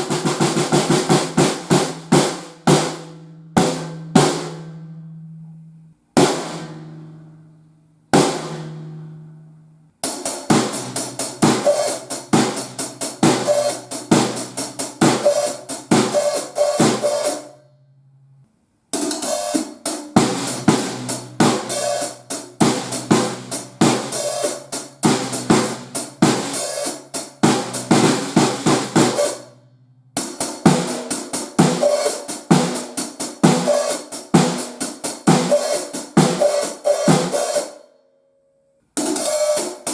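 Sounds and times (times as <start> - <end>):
drum grooves with hi-hat and cymbals: 0.0 - 4.7, 6.2 - 7.0, 8.2 - 9.0, 10.0 - 17.5, 18.9 - 37.8, 39.0 - 39.9.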